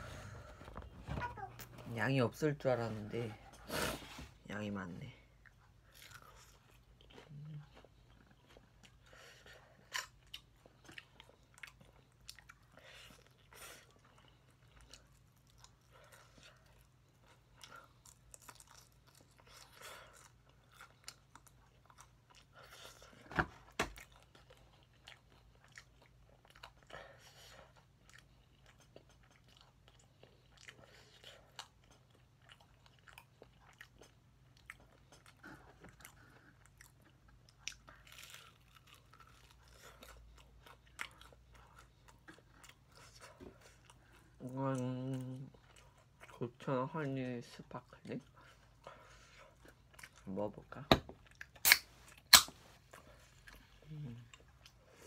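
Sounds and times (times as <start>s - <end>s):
person crunching and chewing: 5.5s - 26.9s, 27.6s - 46.5s, 48.3s - 55.0s.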